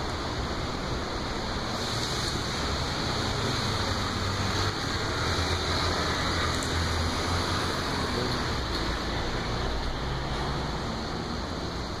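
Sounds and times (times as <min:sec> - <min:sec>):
constant traffic hiss: 0:00.0 - 0:12.0.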